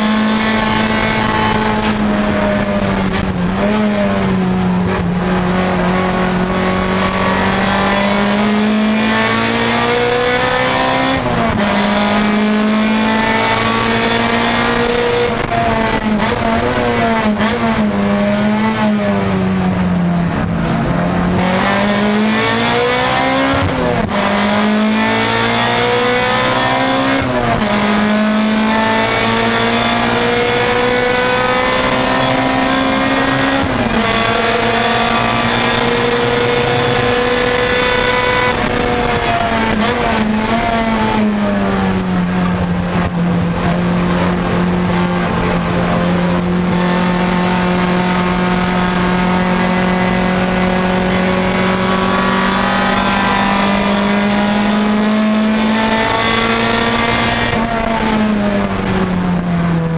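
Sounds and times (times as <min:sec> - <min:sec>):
car engine running at high revs: 0:00.0 - 0:59.9.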